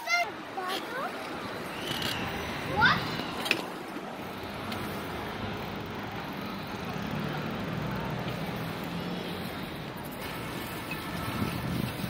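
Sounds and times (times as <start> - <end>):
bicycle tyres rolling on paving stones: 0.6 - 12.0.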